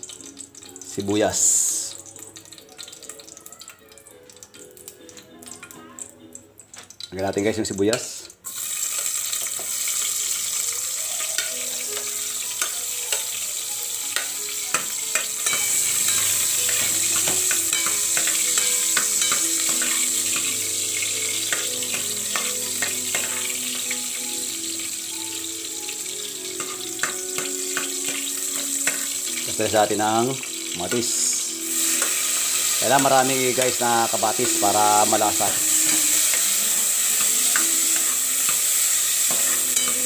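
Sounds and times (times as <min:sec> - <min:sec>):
onion sizzling in hot oil: 0:00.0 - 0:40.0.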